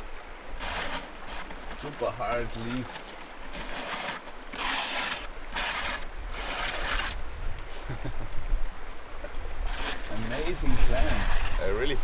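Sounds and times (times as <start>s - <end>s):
stiff leaves rustling: 0.0s - 8.0s, 9.4s - 12.0s.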